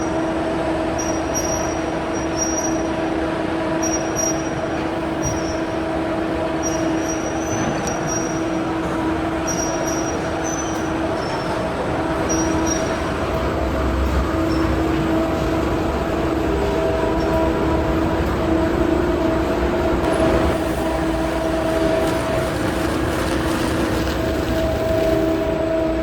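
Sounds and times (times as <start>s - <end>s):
machine drone with hum: 0.0s - 26.0s.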